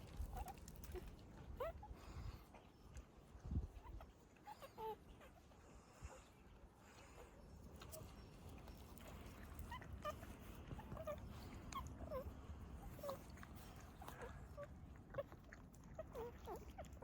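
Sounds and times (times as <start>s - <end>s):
puppies squeaking and whimpering: 0.1s - 2.9s, 3.7s - 6.0s, 7.0s - 17.0s.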